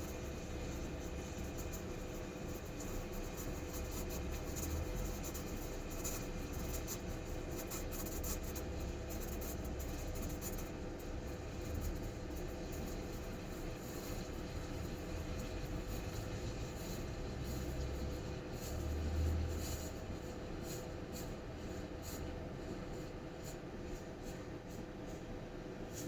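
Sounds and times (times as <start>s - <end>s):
steam wand frothing milk: 0.0s - 26.0s.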